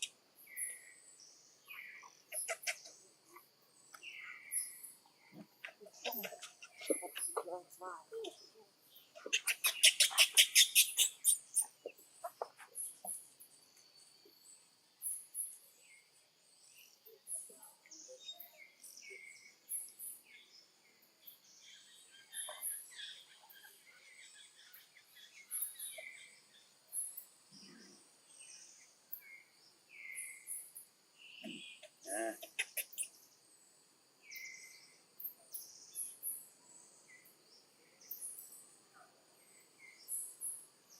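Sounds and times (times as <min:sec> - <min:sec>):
birds chirping: 0:00.0 - 0:33.5.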